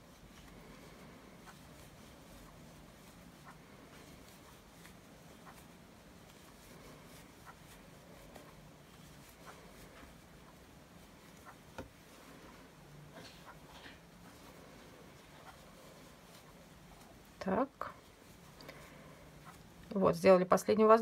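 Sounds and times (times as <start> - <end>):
crochet hook and yarn rustling: 0.0 - 20.0.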